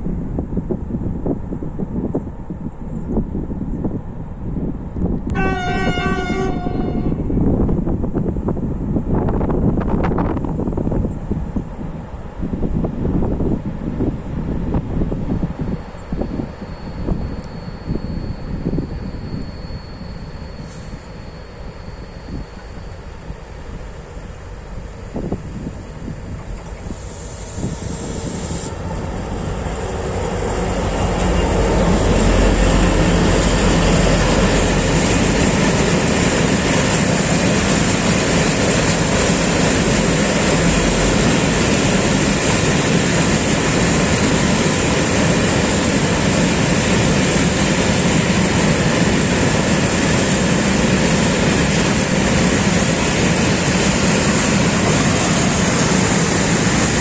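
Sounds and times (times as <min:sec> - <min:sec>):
diesel locomotive hauling train: 0:00.0 - 0:57.0
train wheels rumbling on rails: 0:00.0 - 0:57.0.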